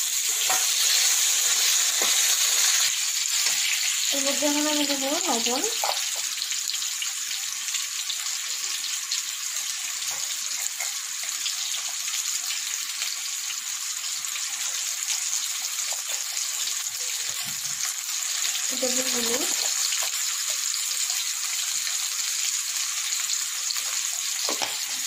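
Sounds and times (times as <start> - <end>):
potato wedges frying in oil: 0.0 - 25.0.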